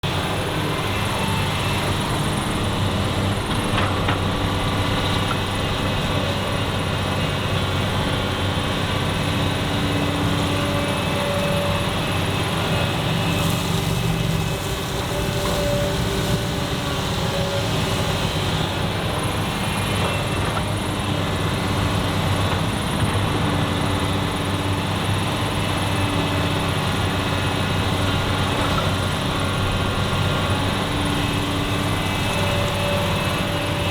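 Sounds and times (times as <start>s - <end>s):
excavator engine drone: 0.0s - 33.9s.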